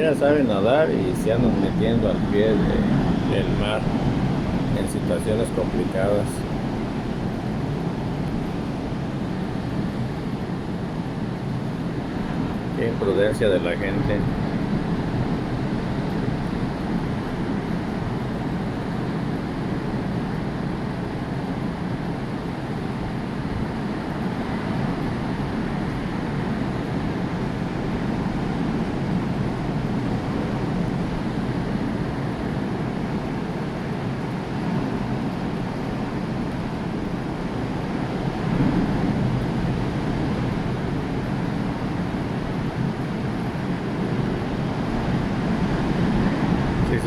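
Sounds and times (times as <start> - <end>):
heavy surf breaking: 0.0 - 17.7, 22.9 - 47.0
wind: 0.0 - 47.0.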